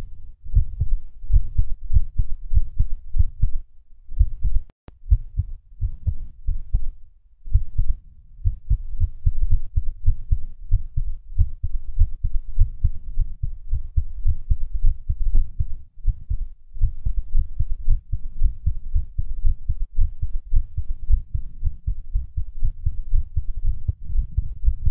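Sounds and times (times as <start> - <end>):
heartbeat thudding: 0.5 - 24.9.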